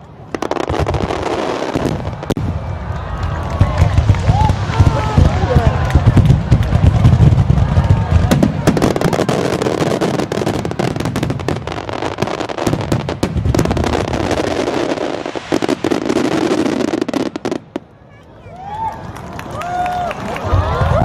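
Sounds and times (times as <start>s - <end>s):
fireworks booming and crackling: 0.0s - 18.1s.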